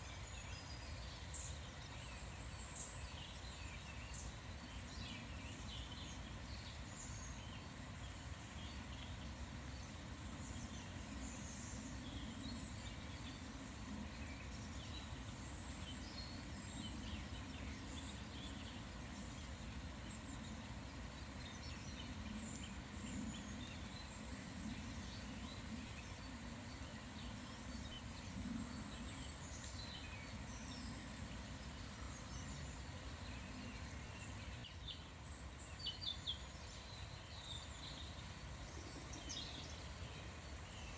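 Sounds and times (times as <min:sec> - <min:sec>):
outdoor background hiss: 0:00.0 - 0:40.9.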